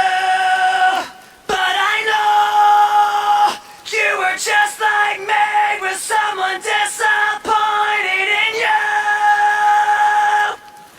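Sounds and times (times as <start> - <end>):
solo singing voice: 0.0 - 10.9.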